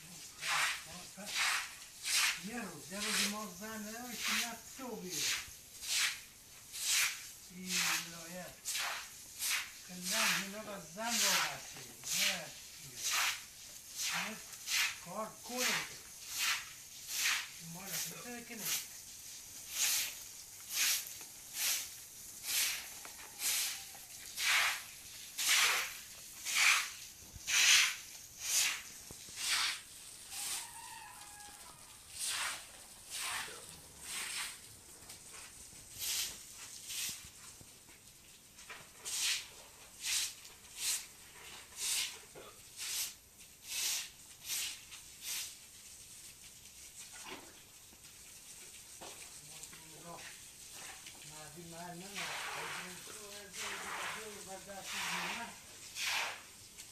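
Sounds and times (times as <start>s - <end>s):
broom sweeping wet concrete: 0.0s - 56.9s.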